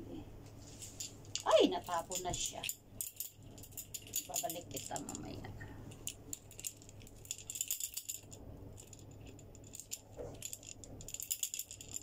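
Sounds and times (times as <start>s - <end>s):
beads clinking against glass: 0.9s - 12.0s.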